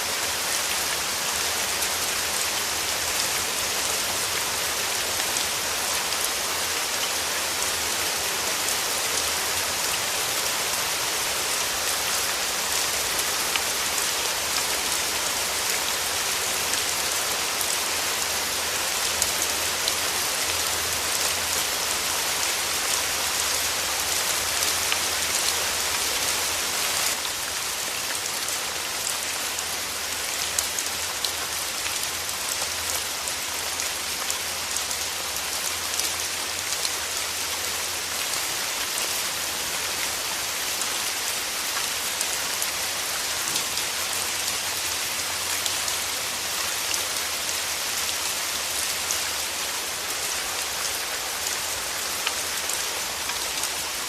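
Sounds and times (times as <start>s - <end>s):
rain pattering on surfaces: 0.2s - 54.0s.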